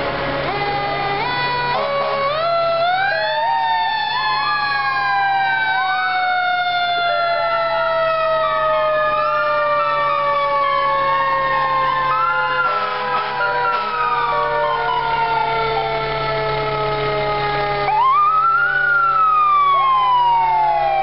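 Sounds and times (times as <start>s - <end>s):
fire truck sirens wailing: 0.0s - 21.0s.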